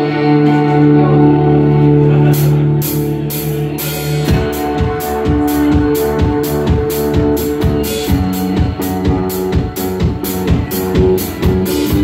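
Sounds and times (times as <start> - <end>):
electric guitar chords: 0.0 - 12.0
drum kit with kick drum beat: 2.2 - 12.0.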